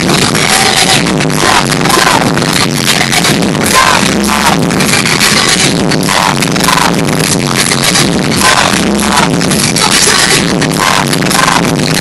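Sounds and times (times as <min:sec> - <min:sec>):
loud live pop music: 0:00.0 - 0:12.0.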